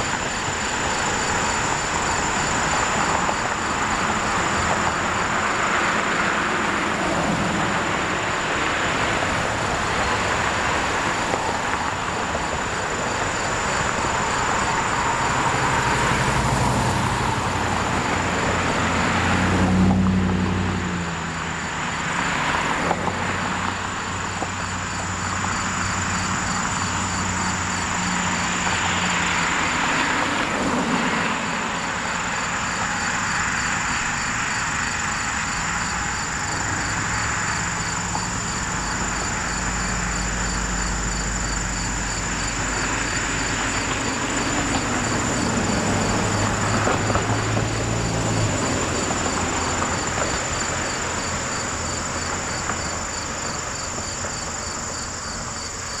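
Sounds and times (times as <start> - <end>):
crickets trilling: 0.0 - 56.0
low engine hum: 0.0 - 56.0
traffic noise: 0.0 - 56.0.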